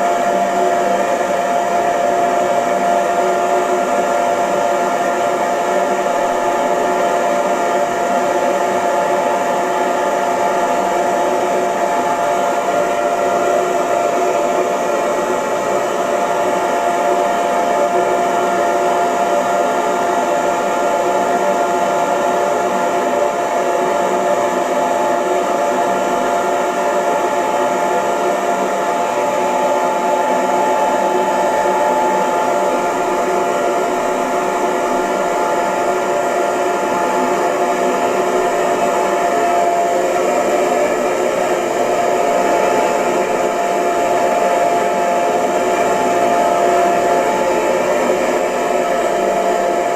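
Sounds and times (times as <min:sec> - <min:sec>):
hair dryer running: 0:00.0 - 0:49.9.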